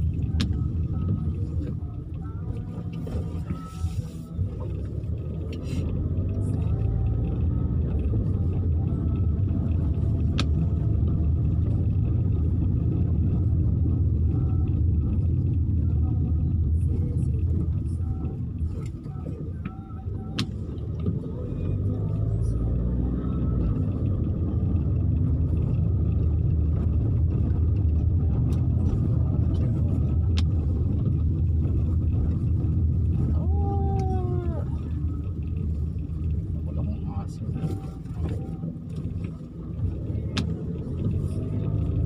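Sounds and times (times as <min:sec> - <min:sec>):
car rumble on wet street: 0:00.0 - 0:42.0.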